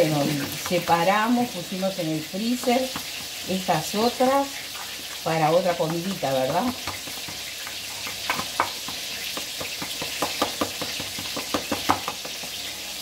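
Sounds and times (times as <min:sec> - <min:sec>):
hot oil sizzling: 0:00.0 - 0:13.0
oil popping and crackling: 0:00.0 - 0:13.0.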